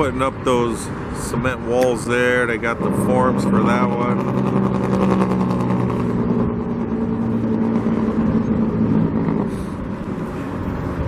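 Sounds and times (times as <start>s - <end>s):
passing vehicles rushing: 0.0s - 11.0s
engine drone: 1.8s - 11.0s.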